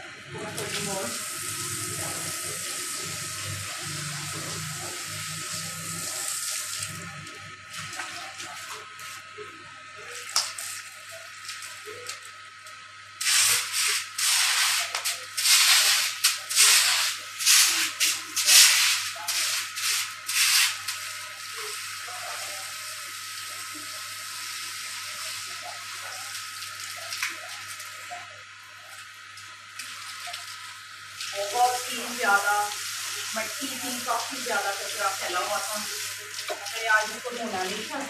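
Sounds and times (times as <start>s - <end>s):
hose spraying water on concrete: 0.4s - 38.0s.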